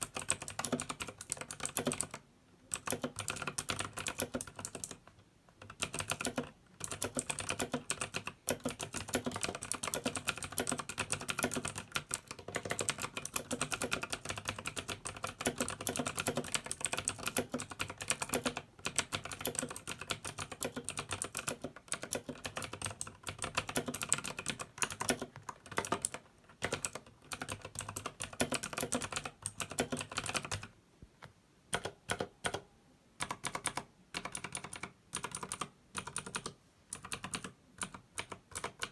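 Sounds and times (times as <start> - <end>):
mechanical keyboard typing: 0.0 - 30.7, 31.7 - 38.9.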